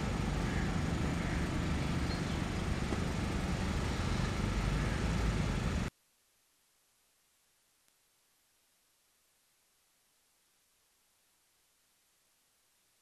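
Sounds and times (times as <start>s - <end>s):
outdoor rumble with hiss: 0.0s - 13.0s.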